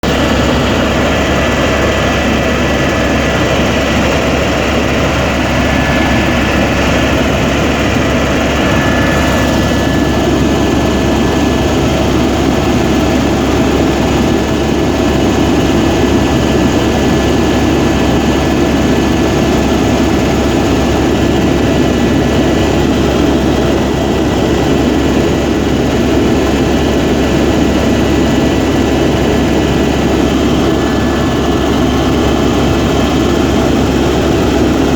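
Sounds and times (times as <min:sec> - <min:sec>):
helicopter turbine and rotors: 0:00.0 - 0:34.9.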